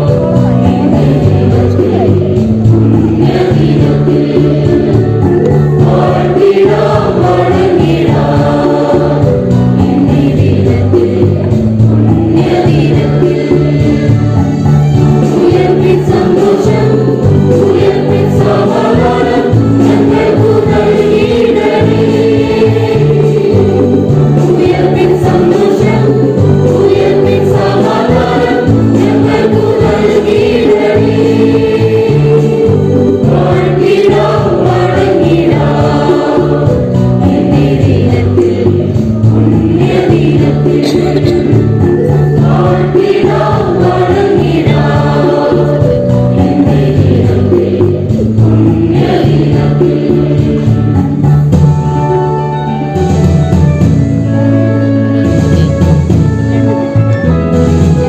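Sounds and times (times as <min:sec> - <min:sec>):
choir singing a hymn: 0:00.0 - 0:53.2
instrumental accompaniment: 0:00.0 - 0:58.0.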